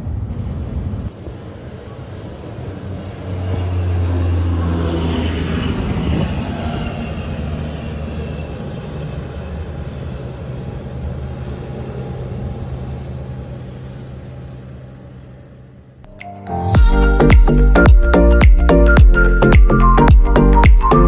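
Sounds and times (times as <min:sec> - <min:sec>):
airliner engines droning: 0:00.0 - 0:17.1
high engine whine: 0:00.0 - 0:21.0.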